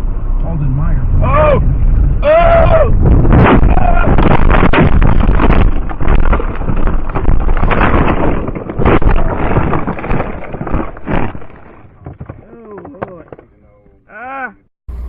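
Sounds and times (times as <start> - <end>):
wind buffeting microphone: 0.0 - 12.5
distorted rumble: 0.0 - 14.2.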